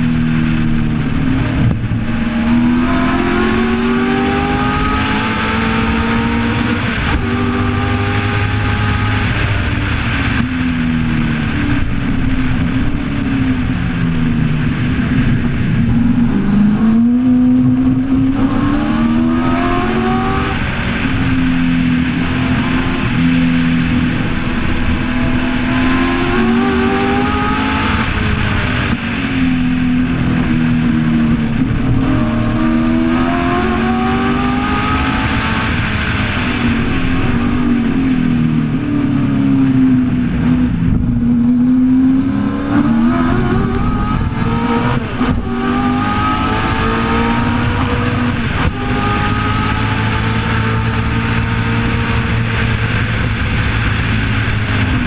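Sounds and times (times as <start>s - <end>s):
racing car engine accelerating: 0.0s - 55.0s
wind and road noise: 0.0s - 55.0s.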